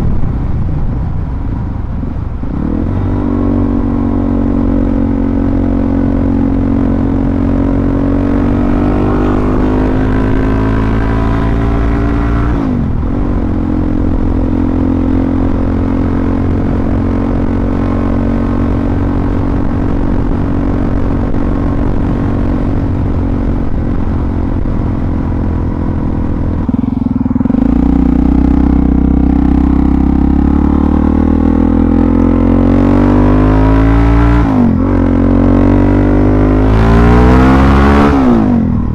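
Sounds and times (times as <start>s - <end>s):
motorcycle engine revving: 2.4s - 38.9s.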